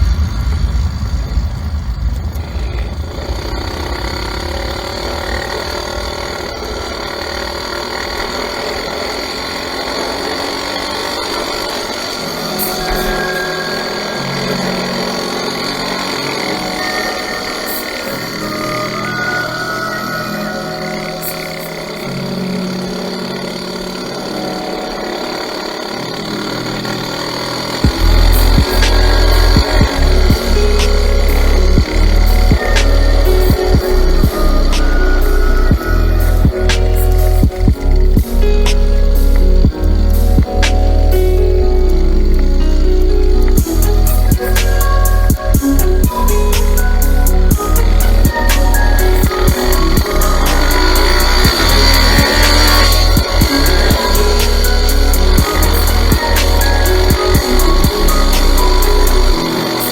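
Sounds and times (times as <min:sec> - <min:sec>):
loud deep throbbing: 0:00.0 - 0:59.9
motorcycle engine running: 0:00.0 - 0:59.9.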